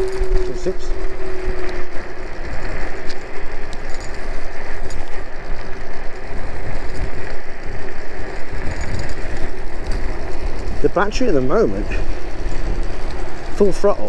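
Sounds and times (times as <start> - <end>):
faint electric motor whine: 0.0 - 14.0
wind buffeting microphone: 0.0 - 14.0.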